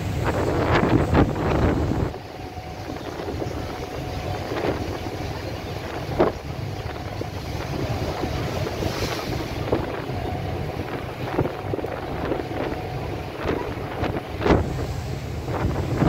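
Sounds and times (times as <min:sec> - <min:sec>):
boat and water rumble: 0:00.0 - 0:16.0
wind buffeting microphone: 0:00.0 - 0:16.0.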